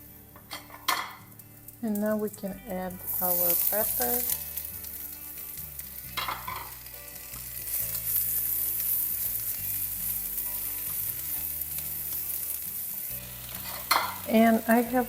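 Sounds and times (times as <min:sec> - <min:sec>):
onions sizzling in a frying pan: 0:00.0 - 0:15.0.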